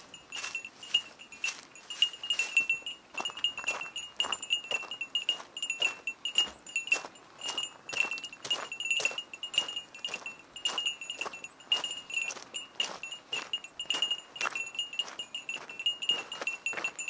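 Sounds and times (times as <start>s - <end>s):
small metal bell jingling: 0.0s - 17.0s.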